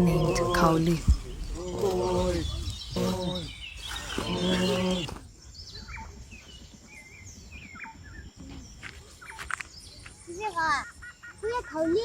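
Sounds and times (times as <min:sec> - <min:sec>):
faint outdoor background: 0:00.0 - 0:12.0
small birds chirping: 0:00.0 - 0:12.0.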